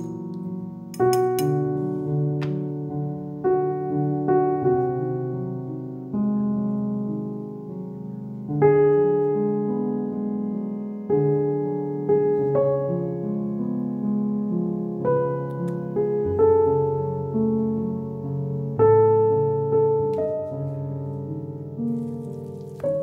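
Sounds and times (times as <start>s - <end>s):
calm piano music: 0.0s - 23.0s.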